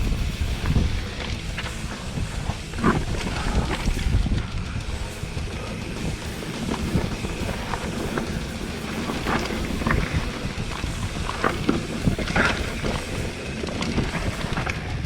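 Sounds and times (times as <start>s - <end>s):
bike clicks and rattles: 0.0s - 15.0s
tyre rumble on dirt: 0.0s - 15.0s
wind buffeting microphone: 0.0s - 15.0s.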